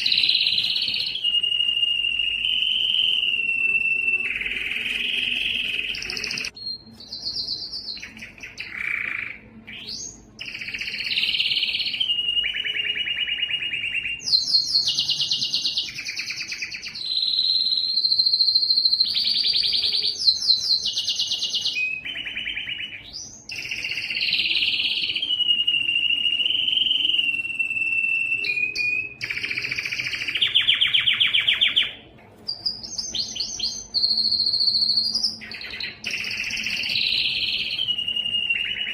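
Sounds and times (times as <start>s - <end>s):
canary singing trills and whistles: 0.0s - 38.9s.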